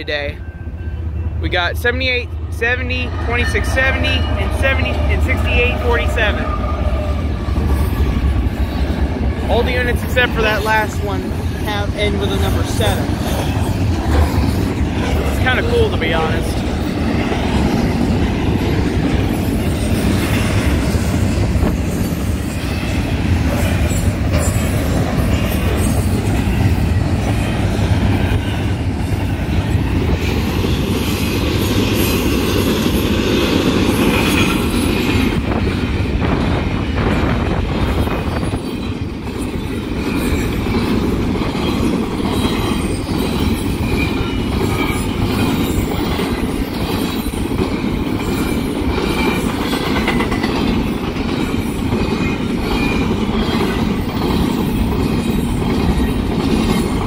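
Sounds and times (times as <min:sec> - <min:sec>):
freight train wheels clattering: 0:01.6 - 0:57.0.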